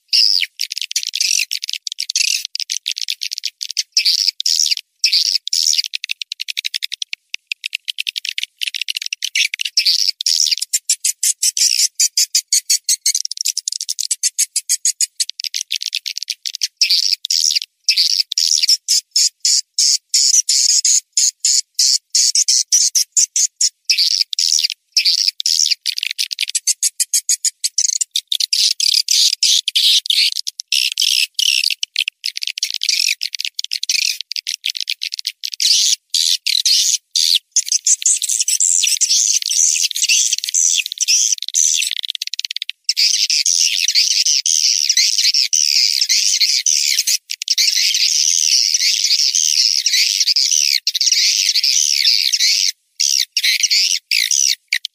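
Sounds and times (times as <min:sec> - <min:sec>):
recorded swiftlet twittering: 0:00.0 - 0:54.9.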